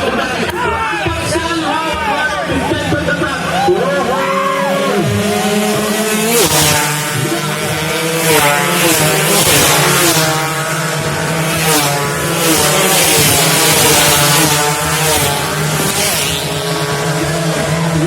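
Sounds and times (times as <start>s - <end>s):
racing motorcycles passing: 0.0s - 18.0s.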